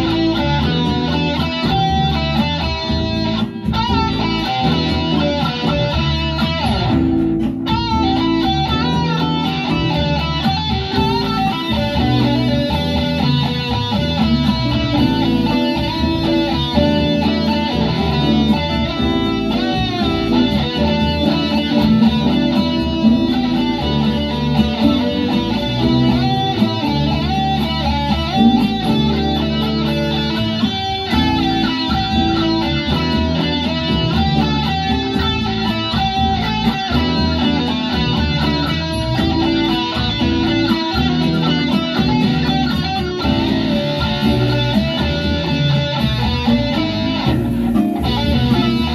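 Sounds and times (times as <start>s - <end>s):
electric guitar picking notes: 0.0s - 48.9s.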